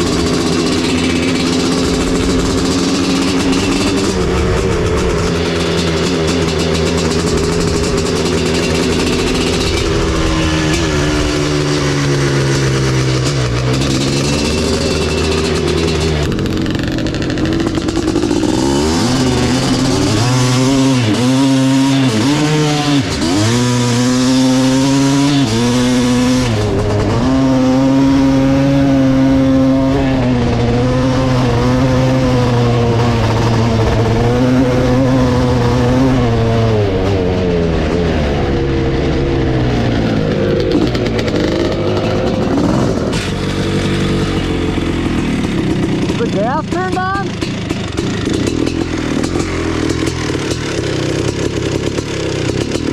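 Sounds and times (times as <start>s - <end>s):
two-stroke motorcycle engine revving: 0.0s - 52.9s.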